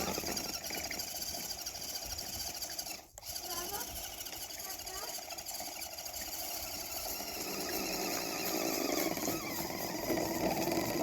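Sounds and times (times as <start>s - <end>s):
electric motor and gearbox whining: 0.0s - 11.0s.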